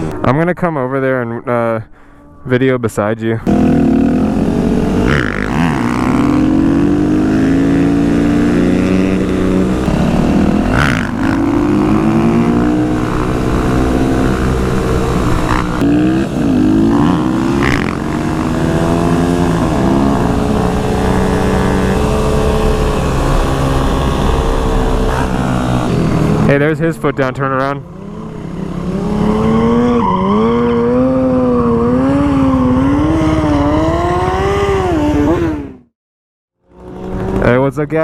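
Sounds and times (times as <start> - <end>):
motorcycle engines revving: 3.4 - 35.9, 36.6 - 38.0.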